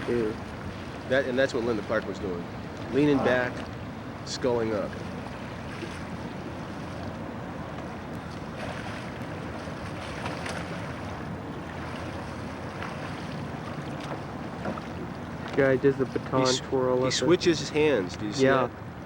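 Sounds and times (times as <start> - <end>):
faint splashes: 0.0 - 18.8
water lapping: 0.0 - 19.0.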